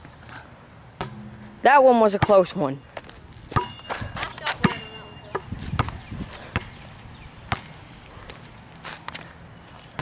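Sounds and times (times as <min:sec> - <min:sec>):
basketball bouncing on pavement: 0:01.0 - 0:09.2.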